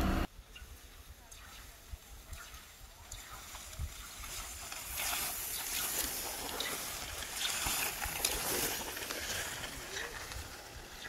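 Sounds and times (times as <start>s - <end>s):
skis swishing over snow: 0.8s - 11.0s.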